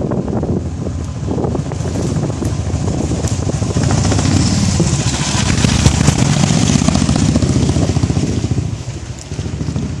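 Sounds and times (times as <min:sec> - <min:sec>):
motorcycle passing by: 0:01.8 - 0:10.0.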